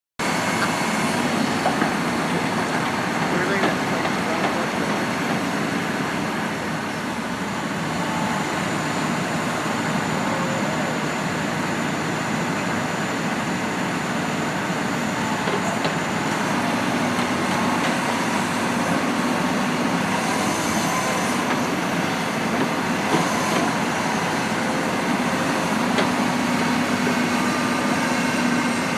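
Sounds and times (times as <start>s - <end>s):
excavator diesel engine: 0.2s - 28.9s
hydraulic whines: 0.2s - 28.9s.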